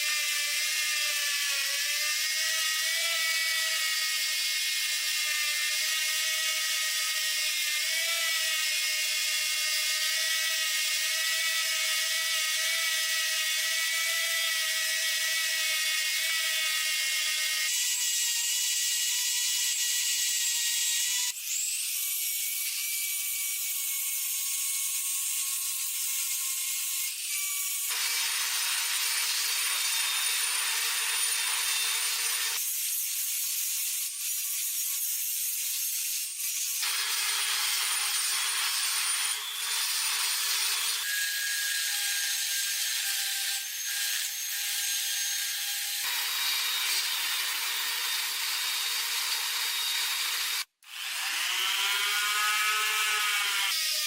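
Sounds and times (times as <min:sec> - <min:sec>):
power tool abrading metal: 0:00.0 - 0:54.0.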